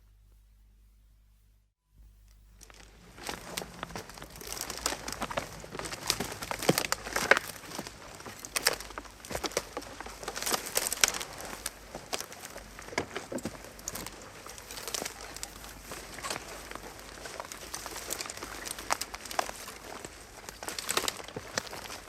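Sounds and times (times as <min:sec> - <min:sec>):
footsteps crunching through undergrowth: 0:02.5 - 0:22.0.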